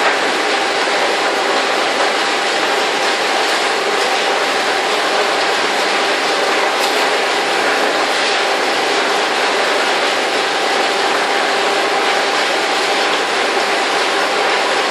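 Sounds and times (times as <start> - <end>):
conveyor belt over rollers: 0.0 - 14.9.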